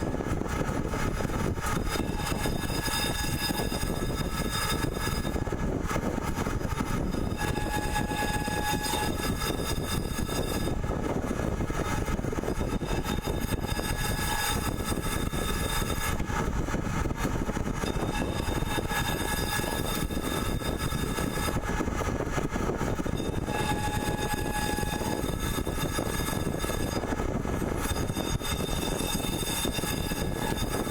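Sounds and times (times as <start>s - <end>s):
thin high whining tones: 1.7s - 5.5s, 6.8s - 16.5s, 17.2s - 21.8s, 22.9s - 30.9s.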